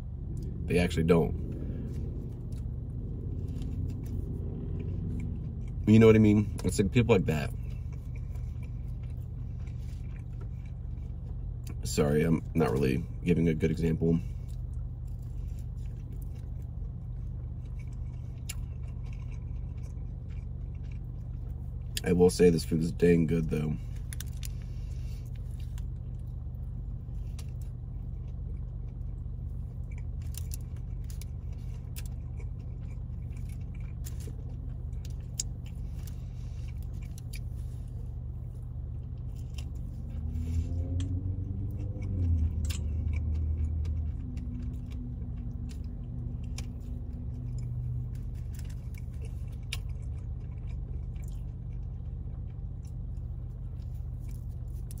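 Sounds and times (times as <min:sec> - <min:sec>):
wavering pitched hum: 0:00.0 - 0:22.0, 0:23.8 - 0:55.0
steady low hum: 0:00.0 - 0:55.0
person chewing: 0:01.3 - 0:11.8, 0:14.2 - 0:22.0, 0:23.8 - 0:55.0.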